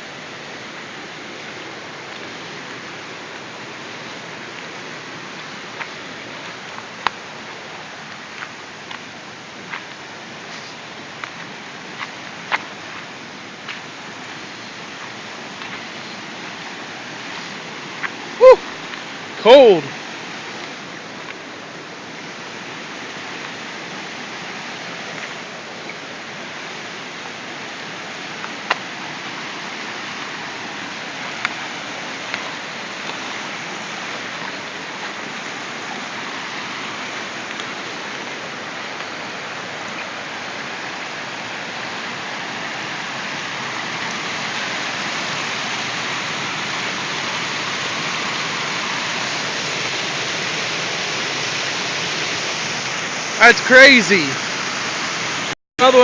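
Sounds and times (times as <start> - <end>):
runoff water rushing: 0.0 - 56.0.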